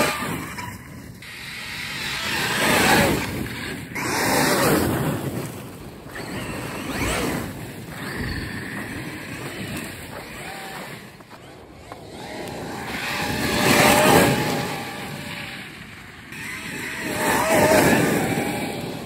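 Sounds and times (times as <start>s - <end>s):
electric motor whining: 0.0s - 5.1s, 6.1s - 19.0s
tyres churning snow: 0.0s - 19.0s.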